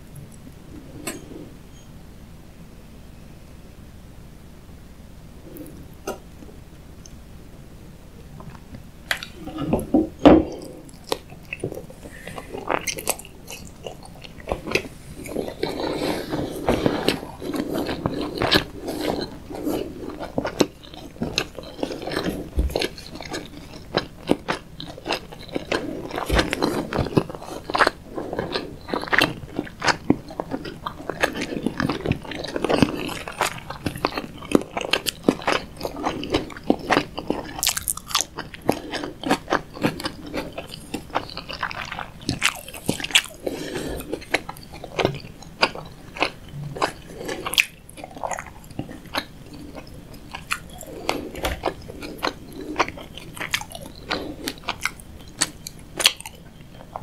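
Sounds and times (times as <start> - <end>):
person chewing: 8.4 - 57.0.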